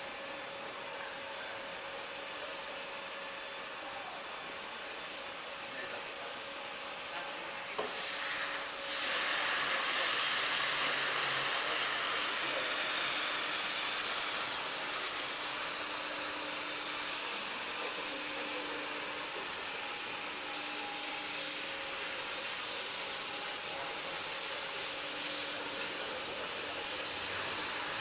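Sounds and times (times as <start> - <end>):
floor scrubber motors whirring: 0.0 - 28.0.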